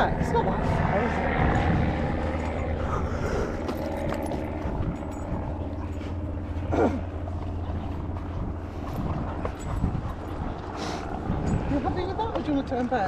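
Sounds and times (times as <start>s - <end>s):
distant traffic drone: 0.0s - 13.0s.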